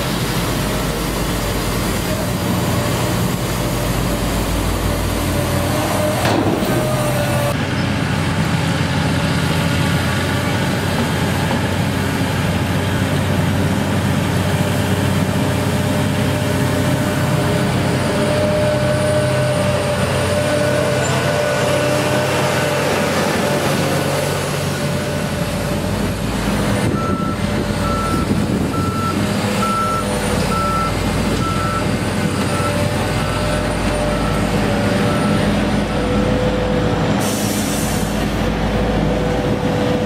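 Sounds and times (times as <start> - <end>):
dozer diesel engine running: 0.0 - 40.0.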